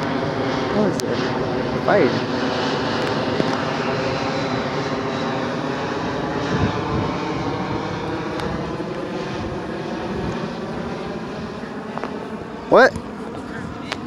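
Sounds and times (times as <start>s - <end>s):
engine drone with pitched hum: 0.0s - 14.0s.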